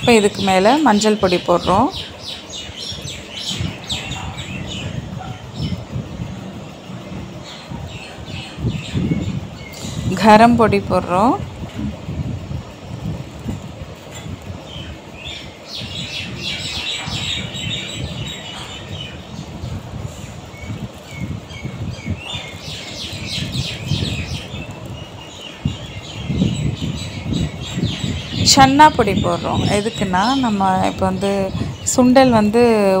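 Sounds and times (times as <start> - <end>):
low uneven rumble: 0.0 - 33.0
small birds twittering: 0.0 - 33.0.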